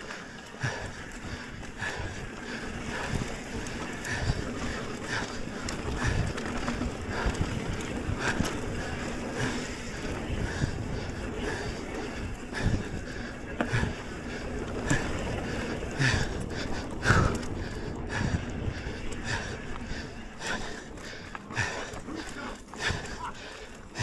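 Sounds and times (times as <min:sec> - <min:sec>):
bike tyres rumbling on dirt: 0:00.0 - 0:24.0
wind buffeting microphone: 0:00.0 - 0:24.0.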